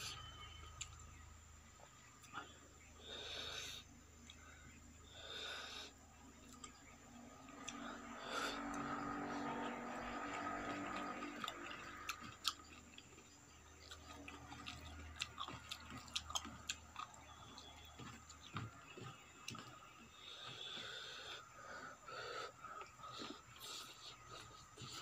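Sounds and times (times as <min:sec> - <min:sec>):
close chewing: 0:01.9 - 0:25.0.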